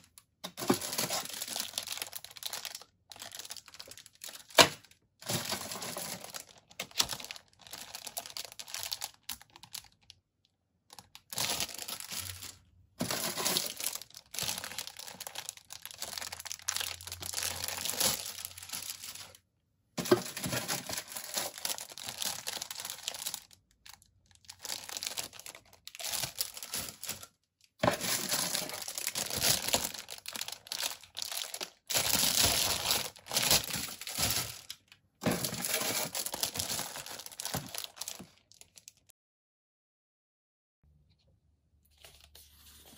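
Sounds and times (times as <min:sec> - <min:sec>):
plastic bags crinkling: 0:00.0 - 0:10.1, 0:10.9 - 0:19.4, 0:20.0 - 0:39.1.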